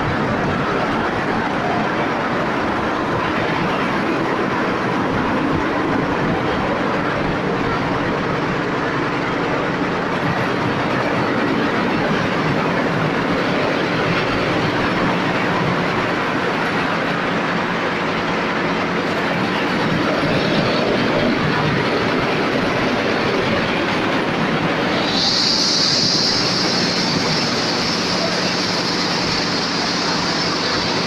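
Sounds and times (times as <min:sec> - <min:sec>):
laser cutting machine running: 0:00.0 - 0:31.0.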